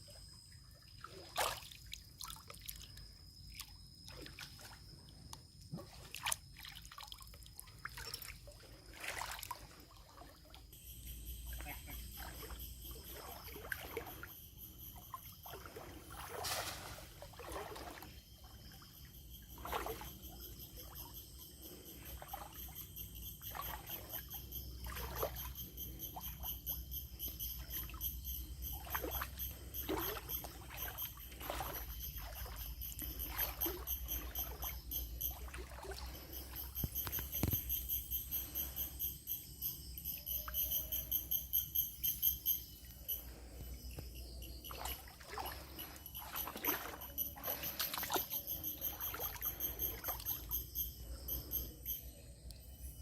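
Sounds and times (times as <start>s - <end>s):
water splashes and trickling: 0.0s - 52.6s
insect chorus ringing: 0.0s - 53.0s.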